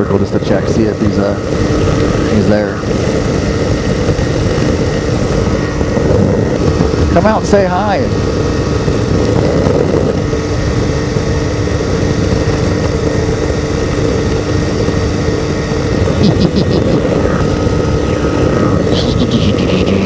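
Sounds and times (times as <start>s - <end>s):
aircraft engine and propeller: 0.0s - 20.0s
wind rush: 0.0s - 20.0s.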